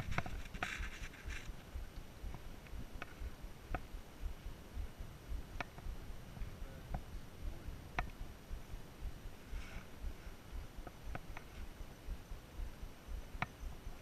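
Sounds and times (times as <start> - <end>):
wind buffeting microphone: 0.0 - 14.0
faint sharp ticks: 0.1 - 6.0, 7.9 - 14.0.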